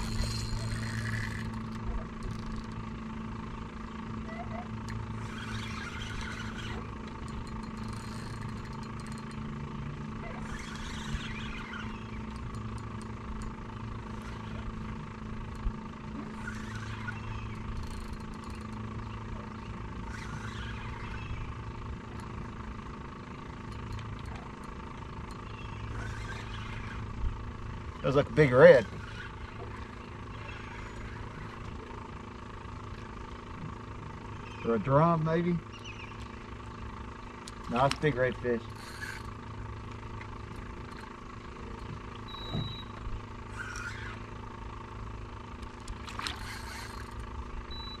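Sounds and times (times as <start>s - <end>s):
low engine hum: 0.0s - 48.0s.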